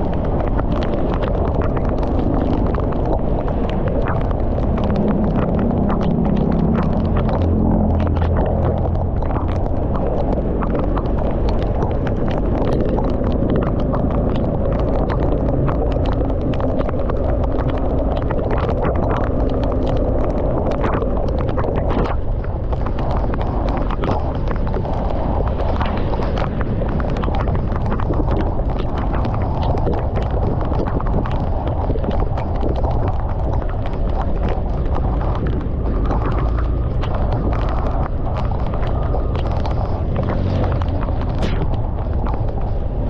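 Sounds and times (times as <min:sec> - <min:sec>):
motorcycle rumble: 0:00.0 - 0:43.0
raindrops tapping microphone: 0:00.0 - 0:43.0.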